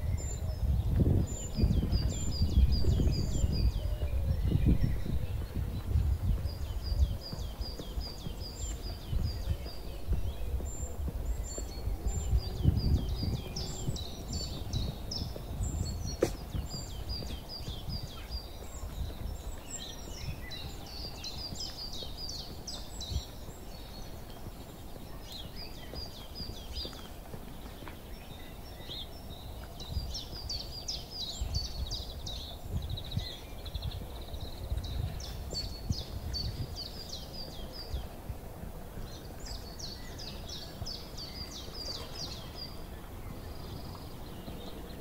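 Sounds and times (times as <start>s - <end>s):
songbirds chirping and warbling: 0.0s - 45.0s.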